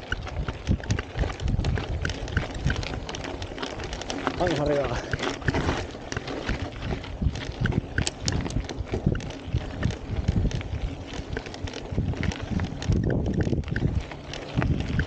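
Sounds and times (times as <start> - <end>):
bike rattling over bumps: 0.0 - 15.0
bike tyres crunching on gravel: 0.0 - 15.0.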